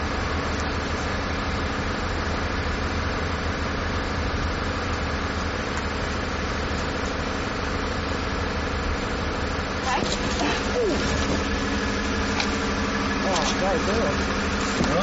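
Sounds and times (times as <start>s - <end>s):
engine idling drone: 0.0s - 15.0s.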